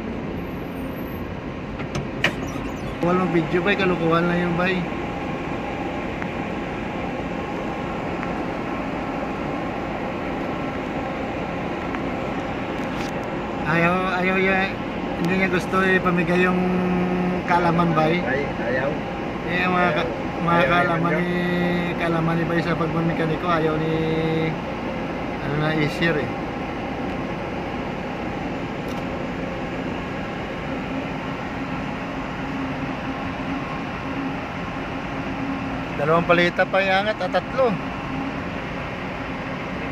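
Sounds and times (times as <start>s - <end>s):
machinery drone: 0.0s - 39.9s.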